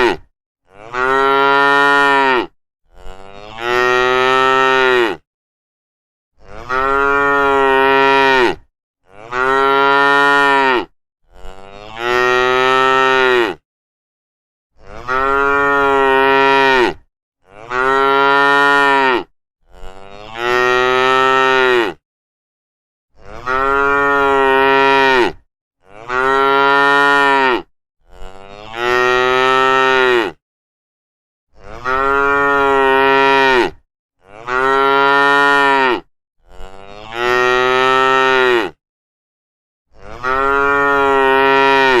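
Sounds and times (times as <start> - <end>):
cattle mooing: 0.0 - 5.2, 6.4 - 13.6, 14.8 - 22.0, 23.2 - 30.4, 31.6 - 38.8, 40.0 - 42.0.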